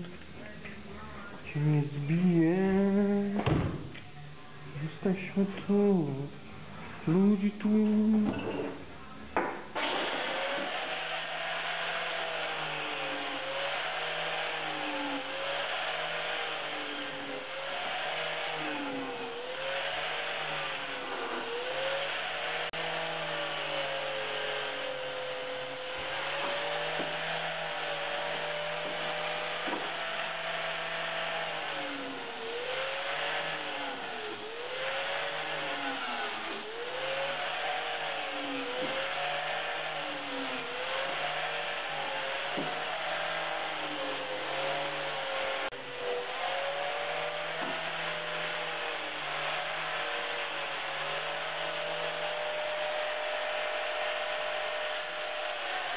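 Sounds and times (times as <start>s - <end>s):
angle grinder cutting steel: 9.8s - 55.9s.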